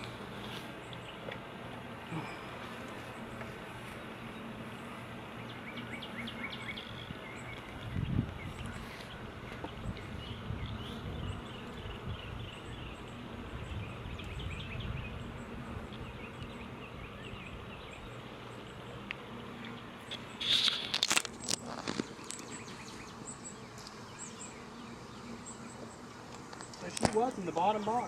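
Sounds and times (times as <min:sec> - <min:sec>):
honey bees buzzing: 0:00.0 - 0:28.0.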